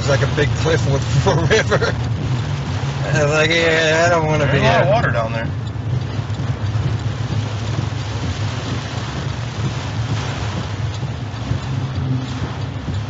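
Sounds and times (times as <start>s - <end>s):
car engine hum: 0.0s - 13.0s
heavy rain hitting a car: 0.0s - 13.0s
tyres on a wet road: 0.0s - 13.0s.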